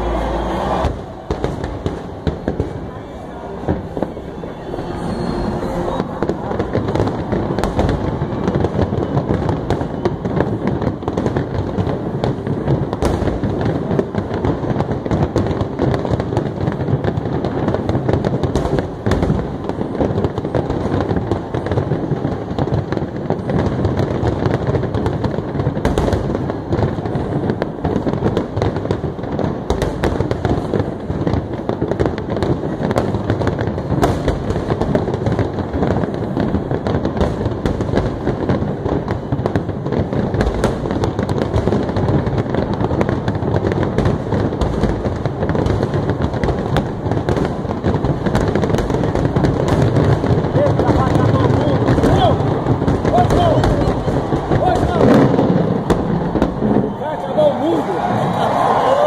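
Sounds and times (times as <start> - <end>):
fireworks bursting and crackling: 0.0 - 59.0
sharp fireworks bangs: 0.0 - 59.0.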